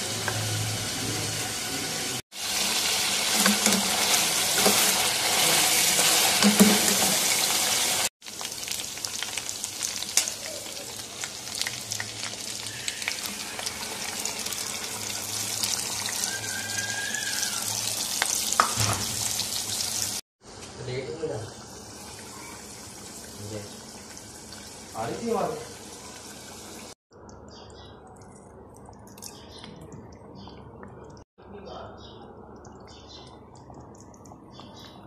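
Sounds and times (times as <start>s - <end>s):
chicken frying in hot oil: 0.0s - 29.7s.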